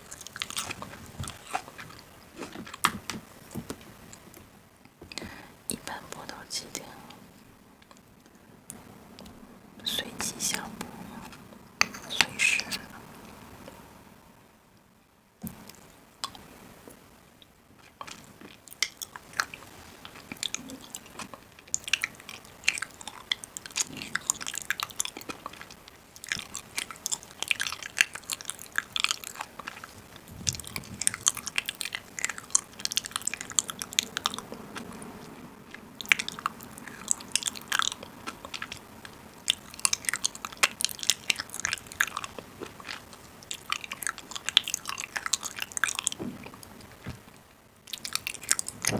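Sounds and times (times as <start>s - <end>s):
crunchy food being chewed: 0.0s - 13.9s, 15.4s - 48.9s.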